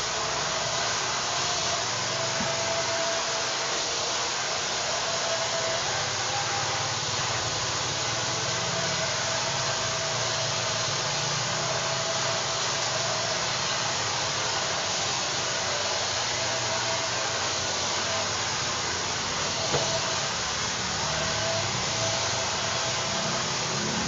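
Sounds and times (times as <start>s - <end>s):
hair dryer blowing: 0.0s - 24.0s.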